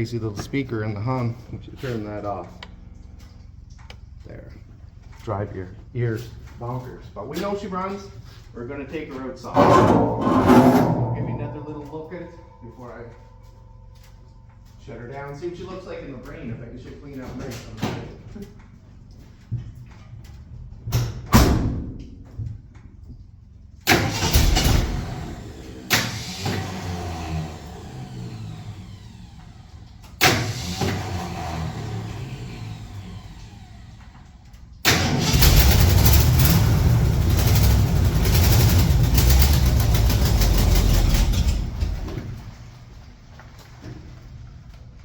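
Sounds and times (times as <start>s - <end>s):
truck engine starting: 0.0s - 19.2s, 23.8s - 44.8s.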